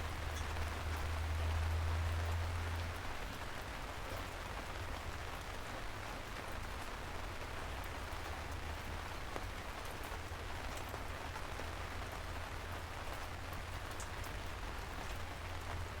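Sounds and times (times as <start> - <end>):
rain pattering on a parasol: 0.0 - 16.0.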